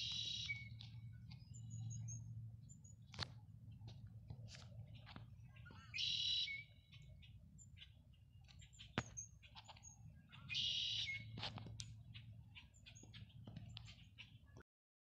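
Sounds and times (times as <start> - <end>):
bird chirps and clicks: 0.0 - 14.6
faint low hum: 0.0 - 14.6
songbird singing buzzy song: 0.0 - 14.6.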